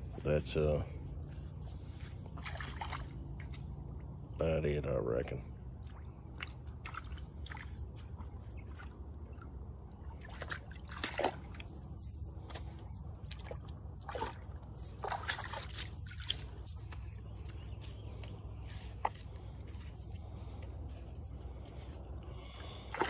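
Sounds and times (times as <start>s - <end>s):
water sloshing and splashing: 0.0s - 4.4s, 5.6s - 23.0s.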